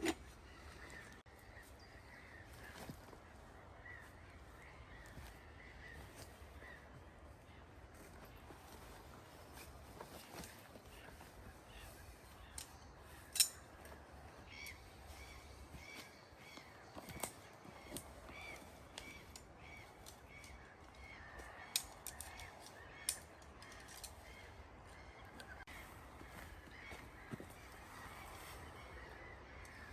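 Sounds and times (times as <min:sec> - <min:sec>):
bird calling: 0:00.0 - 0:29.9.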